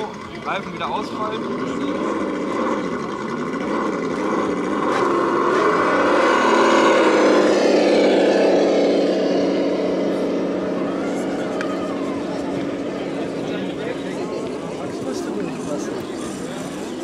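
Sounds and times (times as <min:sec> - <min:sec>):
engine running at varying revs: 0:00.0 - 0:17.0.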